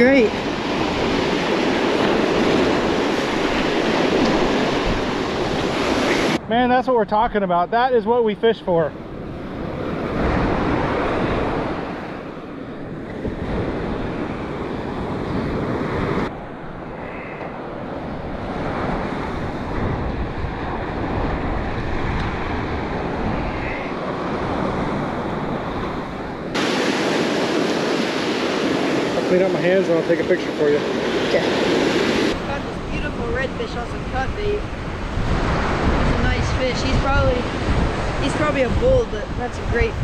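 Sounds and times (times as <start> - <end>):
surf washing onto beach: 0.0 - 40.0
wind buffeting microphone: 0.0 - 40.0.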